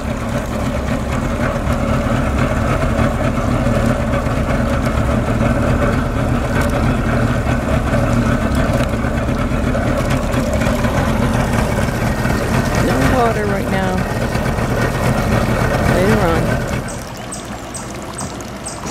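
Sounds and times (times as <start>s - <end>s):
outboard motor running: 0.0s - 18.9s
water rushing along hull: 0.0s - 18.9s.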